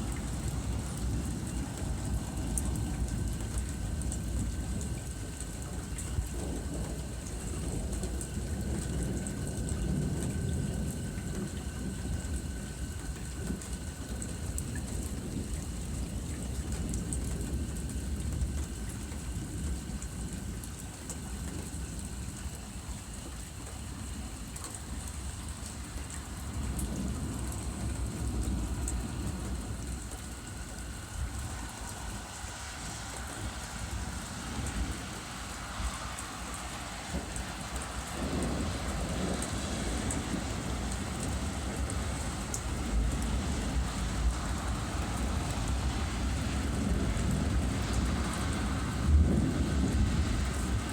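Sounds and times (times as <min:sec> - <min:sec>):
low rolling thunder: 0:00.0 - 0:50.9
steady rain falling: 0:00.0 - 0:50.9.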